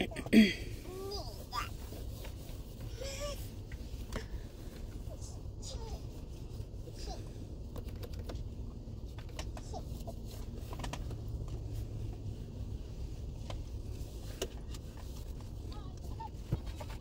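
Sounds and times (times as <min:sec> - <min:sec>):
low steady cabin hum: 0:00.0 - 0:17.0
wipe rubbing on steering wheel: 0:00.7 - 0:17.0.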